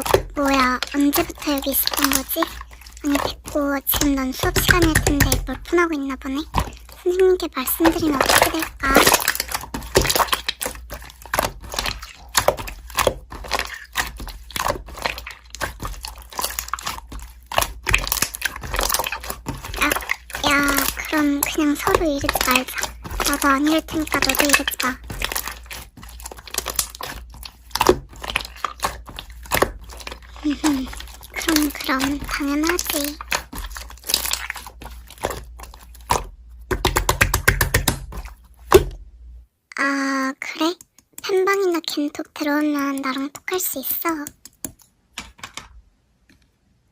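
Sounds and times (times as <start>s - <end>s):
slime squished by hand: 0.0s - 39.0s.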